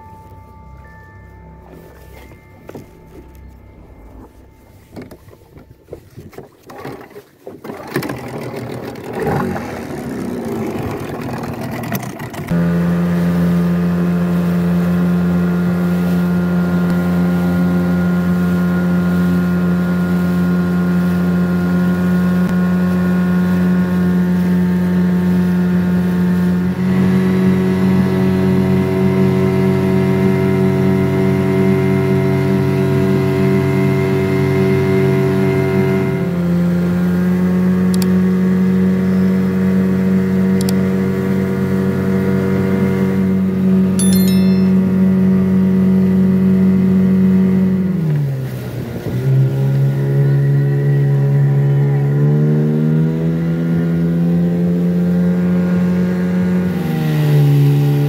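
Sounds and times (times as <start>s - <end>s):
outboard boat motor running: 0.0s - 58.0s.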